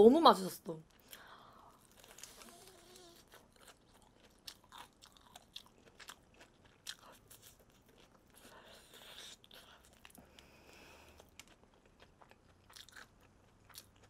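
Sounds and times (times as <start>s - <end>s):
crunchy chewing: 0.9s - 14.0s.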